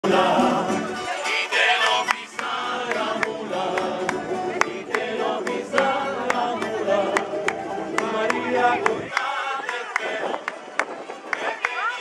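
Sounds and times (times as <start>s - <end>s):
men singing: 0.0s - 10.6s
plucked string instruments: 0.0s - 12.0s.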